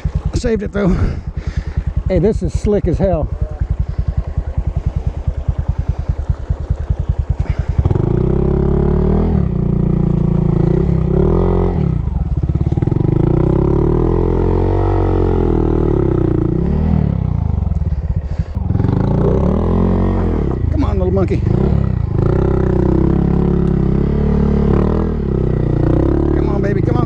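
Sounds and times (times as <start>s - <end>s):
small motorcycle engine revving: 3.0s - 27.0s.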